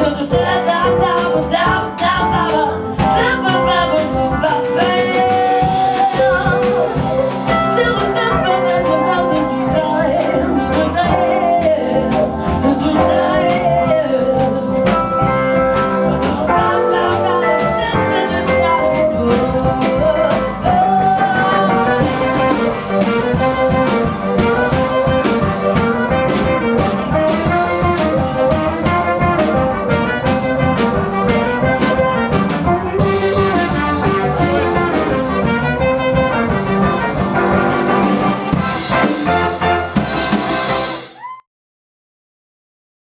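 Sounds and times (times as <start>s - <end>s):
steady drum beat: 0.0s - 41.1s
swing band playing jazz: 0.0s - 41.2s.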